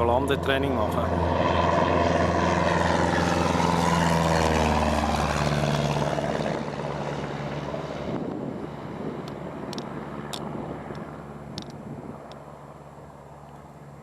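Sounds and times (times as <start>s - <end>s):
propeller plane passing: 0.0s - 14.0s.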